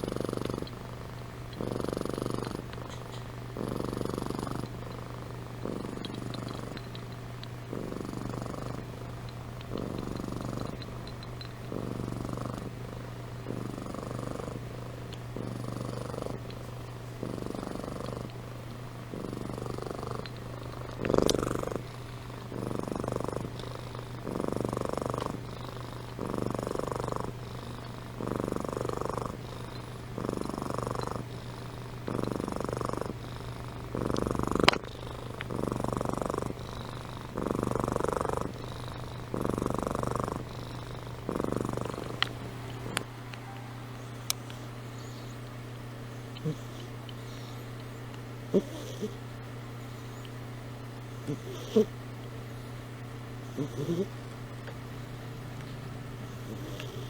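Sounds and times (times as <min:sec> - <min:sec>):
cat purring: 0:00.0 - 0:45.4, 0:46.1 - 0:47.8, 0:48.5 - 0:49.2, 0:51.1 - 0:52.0, 0:53.4 - 0:54.2, 0:55.0 - 0:57.0.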